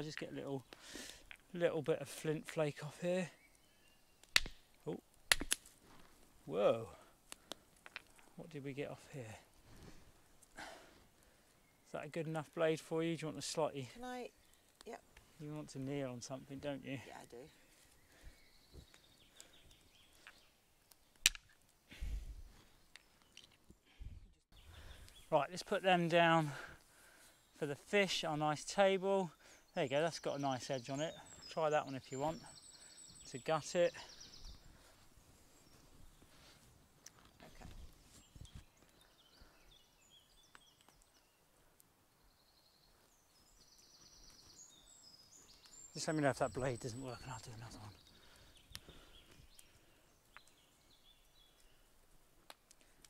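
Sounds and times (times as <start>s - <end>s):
songbirds chirping and trilling: 0.0s - 53.0s.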